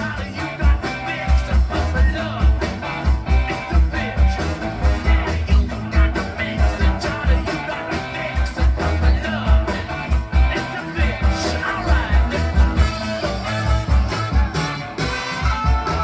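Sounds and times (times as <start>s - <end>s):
music with bass beat and guitar: 0.0s - 16.0s.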